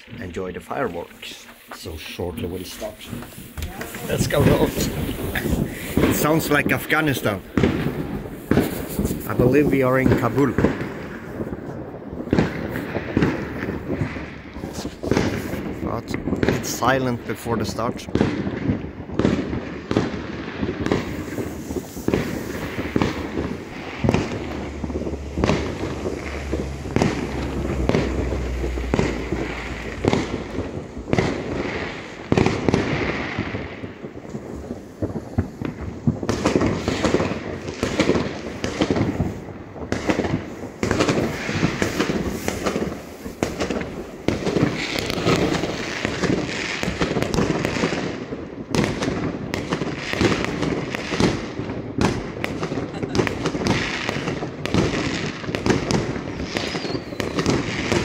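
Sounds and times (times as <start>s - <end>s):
fireworks bangs and pops: 0.0s - 58.0s.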